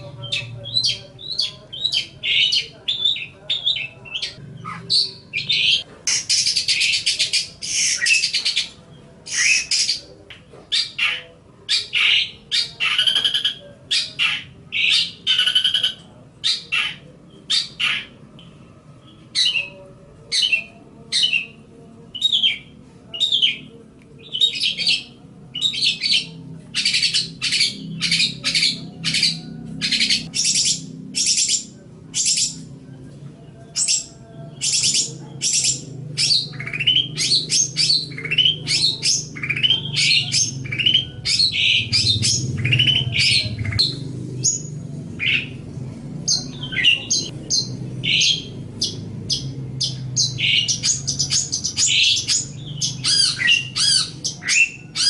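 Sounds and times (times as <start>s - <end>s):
bird harsh chattering song: 0.0s - 21.6s, 22.2s - 32.7s, 33.7s - 45.6s, 46.2s - 55.0s.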